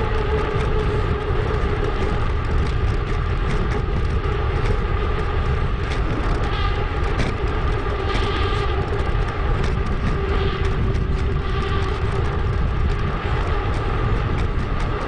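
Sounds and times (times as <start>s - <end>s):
bike tyre rumble: 0.0s - 15.0s
wind: 0.0s - 15.0s.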